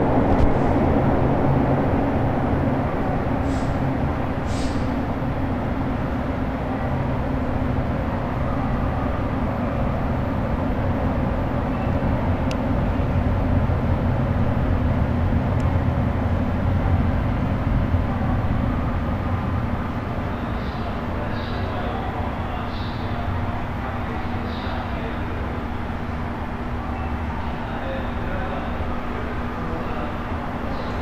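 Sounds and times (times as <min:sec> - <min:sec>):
electric train humming: 0:00.0 - 0:31.0.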